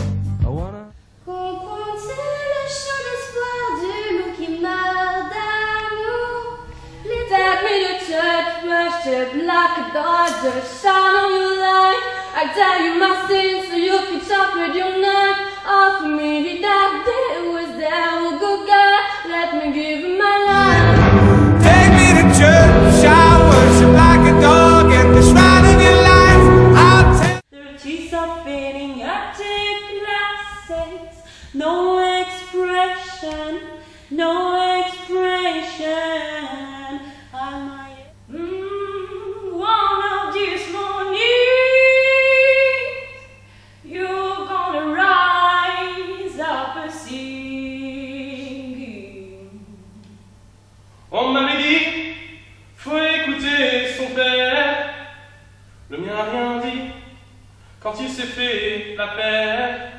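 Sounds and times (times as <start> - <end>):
woman singing unaccompanied: 1.2 - 21.0, 21.6 - 50.2.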